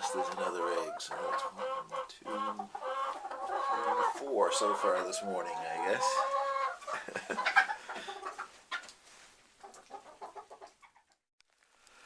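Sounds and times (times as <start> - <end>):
chickens clucking: 0.0 - 9.0, 9.6 - 11.2.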